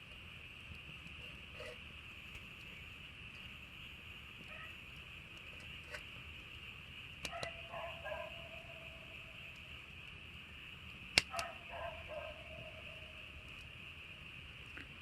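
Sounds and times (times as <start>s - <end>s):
campfire crackling and popping: 0.0s - 15.0s
steady high hiss: 0.0s - 15.0s.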